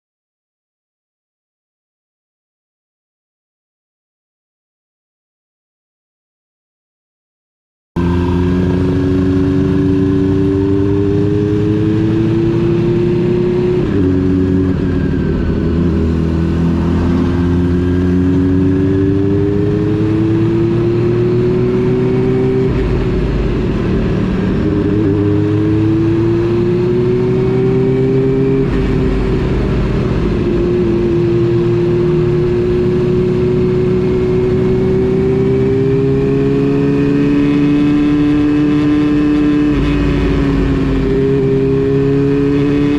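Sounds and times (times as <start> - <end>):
motorcycle engine accelerating: 8.0 - 42.9.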